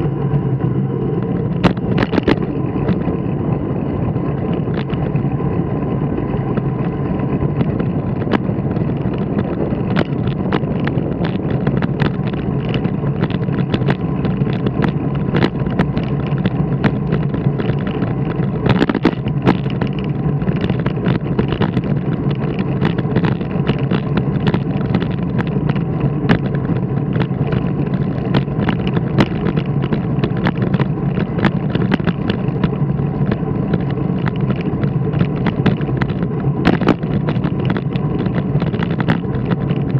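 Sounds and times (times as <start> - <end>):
low hum: 0.0 - 39.9
ride rolling over asphalt: 0.0 - 39.9
knocks and rattles: 1.4 - 3.2, 4.4 - 5.2, 6.5 - 39.9.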